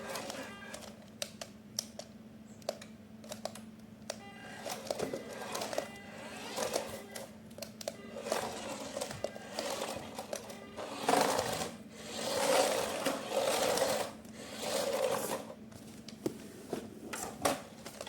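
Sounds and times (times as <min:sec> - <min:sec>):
faint music: 0:00.0 - 0:18.0.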